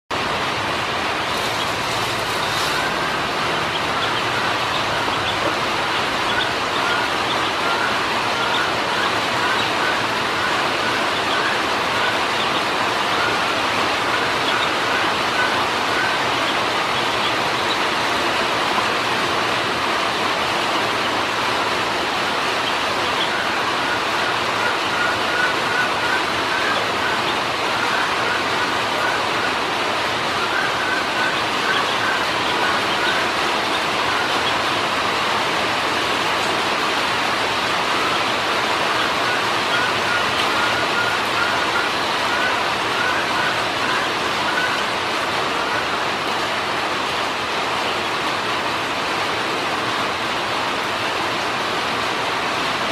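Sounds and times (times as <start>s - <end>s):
ducklings peeping: 0.1s - 48.5s
steady rushing background noise: 0.1s - 52.9s.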